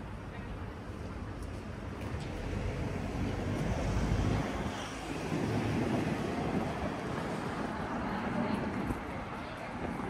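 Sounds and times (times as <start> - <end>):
street traffic noise: 0.0 - 10.0
wind rumbling on microphone: 1.7 - 10.0.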